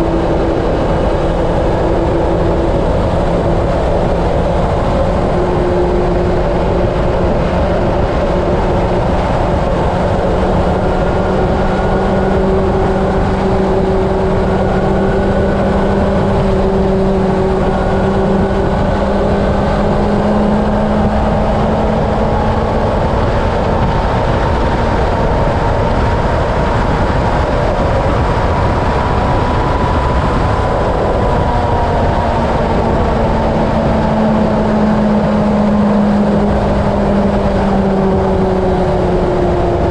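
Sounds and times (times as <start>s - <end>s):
motorcycle engine droning: 0.0s - 39.9s
wind noise on microphone: 0.0s - 39.9s.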